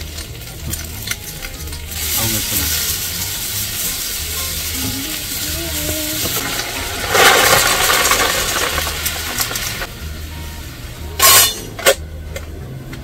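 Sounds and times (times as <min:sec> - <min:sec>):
food sizzling in a pan: 0:00.0 - 0:11.4.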